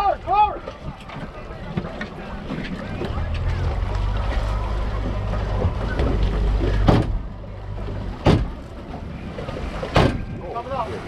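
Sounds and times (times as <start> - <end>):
boat hull slapping water: 0.0 - 11.0
low rumble: 0.8 - 10.4.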